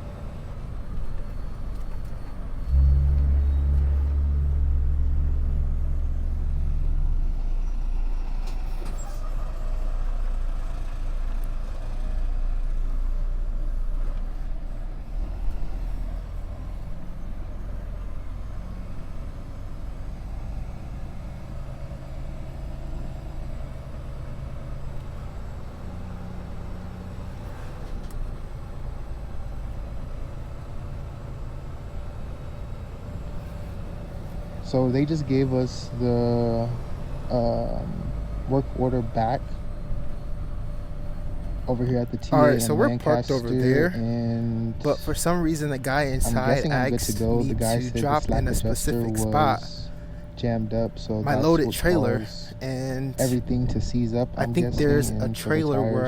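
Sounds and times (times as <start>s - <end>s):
truck diesel engine humming: 0.0s - 56.0s.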